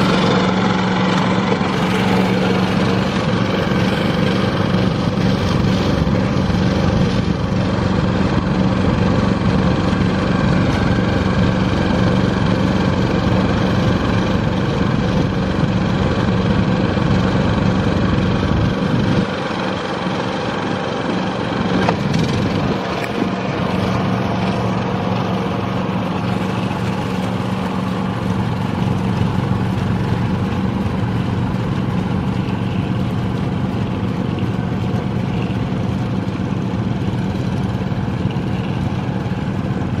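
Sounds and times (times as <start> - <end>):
small engine running steadily: 0.0 - 40.0.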